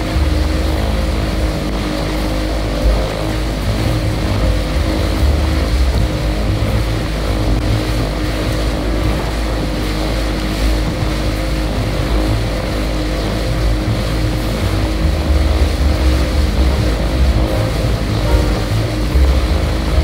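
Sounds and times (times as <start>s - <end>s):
outboard motor drone: 0.0s - 20.0s
water rushing past hull: 0.0s - 20.0s.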